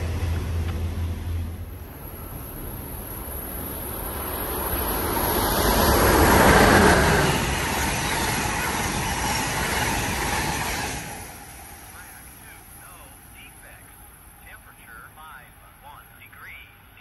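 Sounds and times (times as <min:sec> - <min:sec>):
train wheels rumbling on rail: 0:00.0 - 0:14.1.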